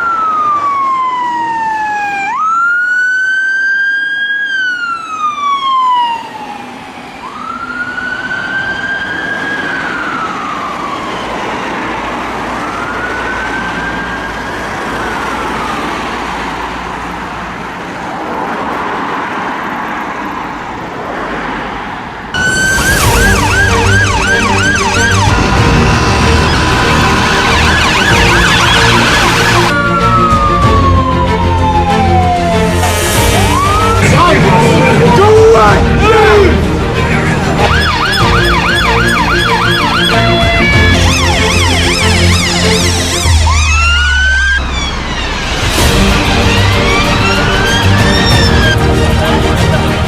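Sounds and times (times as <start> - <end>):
siren yelping: 0.0 - 16.3, 22.4 - 36.6, 37.6 - 48.8
siren wailing: 0.0 - 16.8, 22.4 - 36.8, 37.4 - 49.0.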